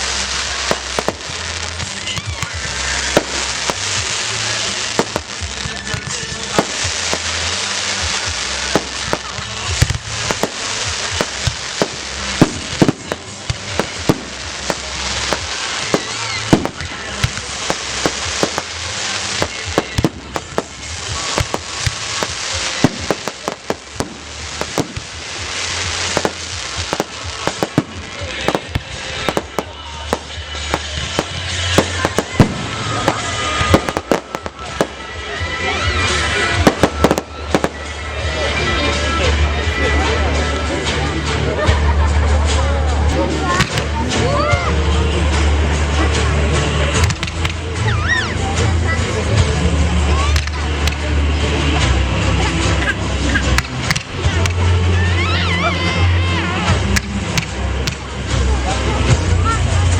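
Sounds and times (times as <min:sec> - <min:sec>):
fireworks bangs and crackles: 0:00.0 - 0:59.9
music playing: 0:00.0 - 0:59.9.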